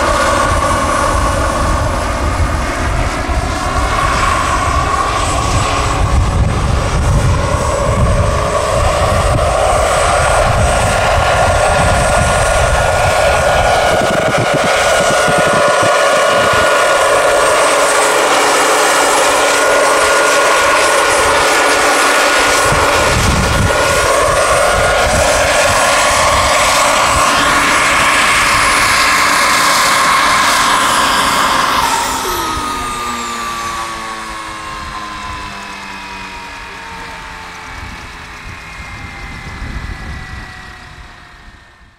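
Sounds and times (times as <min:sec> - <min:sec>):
rotor whirring: 0:00.0 - 0:41.9
turbine engine whine: 0:00.0 - 0:41.9.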